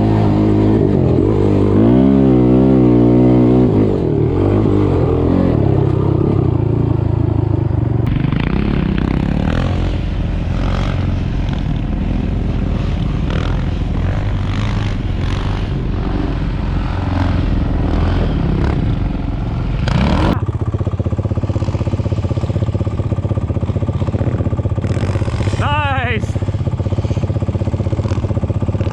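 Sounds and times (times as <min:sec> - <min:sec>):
off-road engine running: 0:00.0 - 0:28.9.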